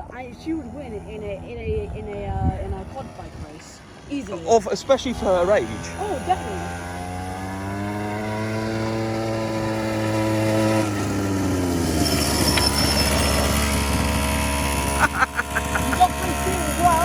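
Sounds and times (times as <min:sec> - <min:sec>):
small quad bike engine running: 0:00.0 - 0:17.0.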